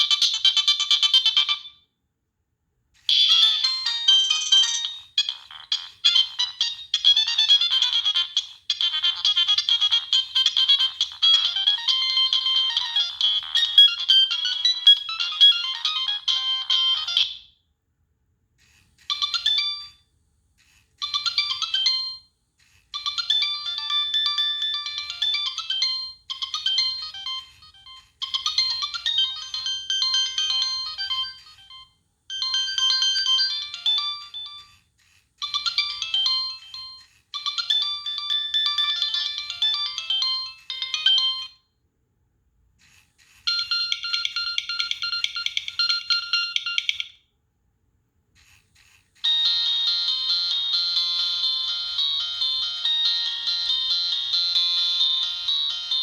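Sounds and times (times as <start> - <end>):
electronic phone ringtone melody: 0.0 - 1.8, 3.1 - 17.6, 19.0 - 41.6, 43.2 - 47.2, 48.8 - 56.0.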